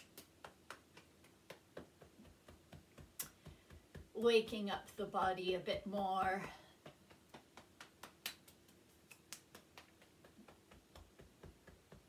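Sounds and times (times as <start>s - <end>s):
hands tapping on clothing: 0.0s - 4.6s, 6.2s - 12.0s.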